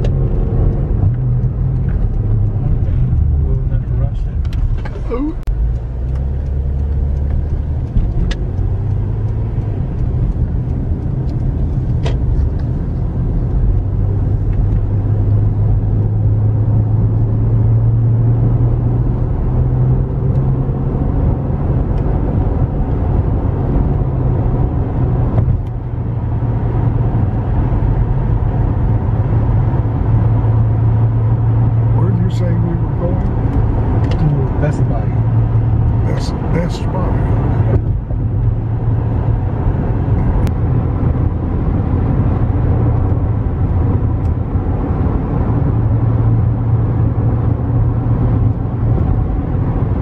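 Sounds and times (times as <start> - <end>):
car engine and tyre road noise: 0.0 - 50.0.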